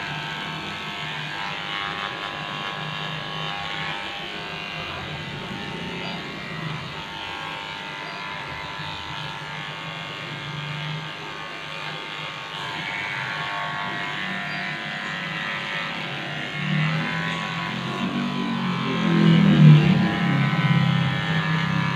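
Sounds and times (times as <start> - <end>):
electric pet clipper humming: 0.0 - 21.9.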